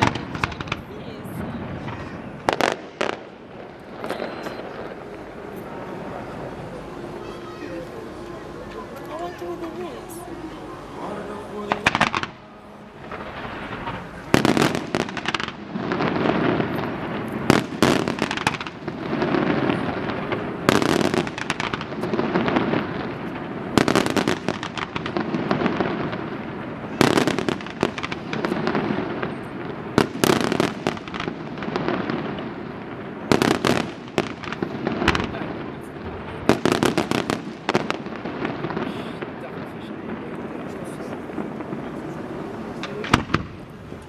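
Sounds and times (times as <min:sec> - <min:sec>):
fireworks crackling: 0:00.0 - 0:44.0.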